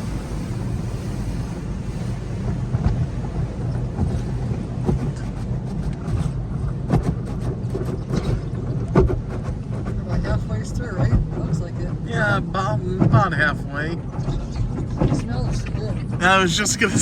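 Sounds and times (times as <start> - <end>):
car wash machinery and water spray: 0.0 - 17.0.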